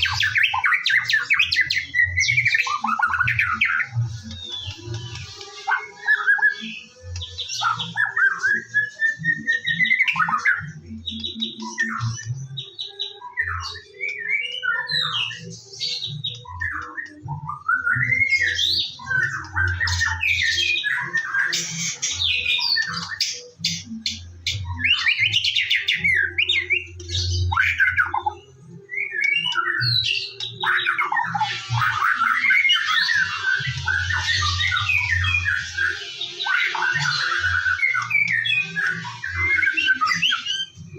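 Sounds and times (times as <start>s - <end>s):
songbird singing whistles and trills: 0.0s - 40.9s.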